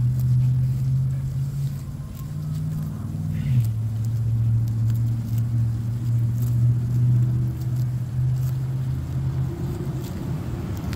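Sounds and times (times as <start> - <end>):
goats chewing grass: 0.0 - 10.9.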